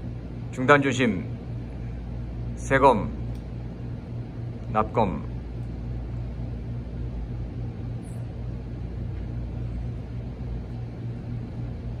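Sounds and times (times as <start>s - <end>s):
low hum with rumble: 0.0s - 12.0s.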